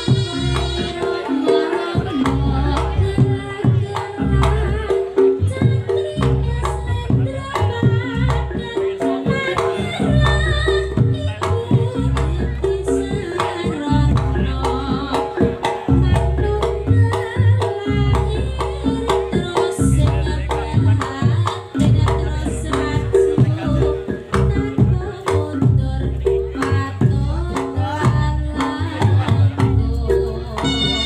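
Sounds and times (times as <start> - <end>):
hand drums in busy rhythm: 0.0 - 31.0.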